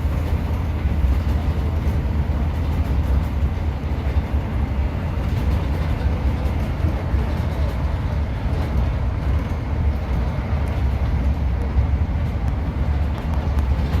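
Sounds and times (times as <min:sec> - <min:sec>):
train low rumble: 0:00.0 - 0:14.0
wheels clicking on rails: 0:00.0 - 0:14.0.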